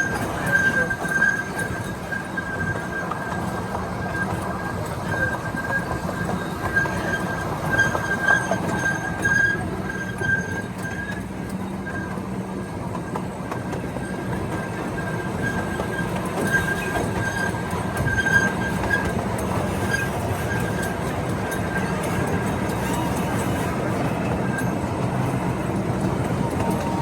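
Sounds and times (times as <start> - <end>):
miniature train rumbling on rails: 0.0 - 27.0
wheel squeal: 0.0 - 27.0.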